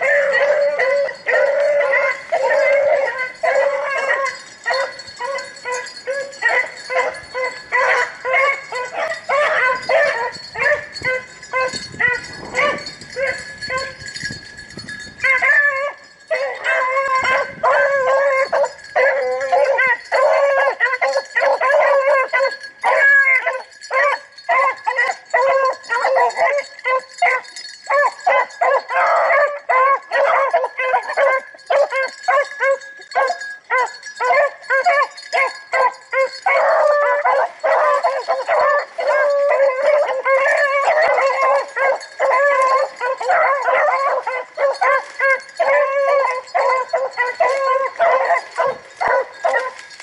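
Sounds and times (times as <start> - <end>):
hounds baying: 0.0 - 50.0.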